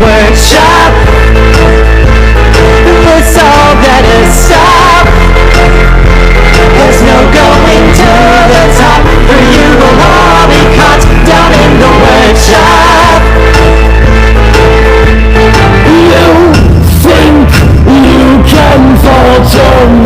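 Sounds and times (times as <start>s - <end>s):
instrumental rock music: 0.0s - 20.0s.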